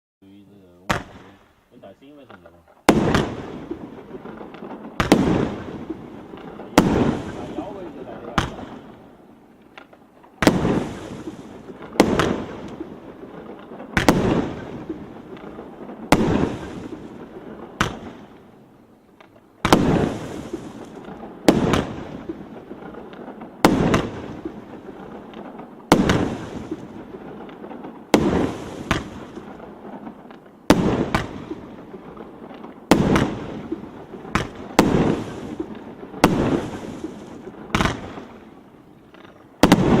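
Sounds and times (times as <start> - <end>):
firework battery bangs: 2.8 - 9.0, 9.7 - 18.3, 19.6 - 38.4, 39.2 - 40.0.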